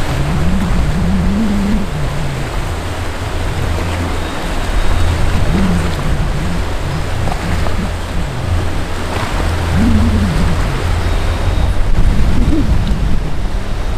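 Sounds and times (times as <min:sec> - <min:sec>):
choppy water rushing: 0:00.0 - 0:13.9
outboard motors running: 0:00.0 - 0:13.9.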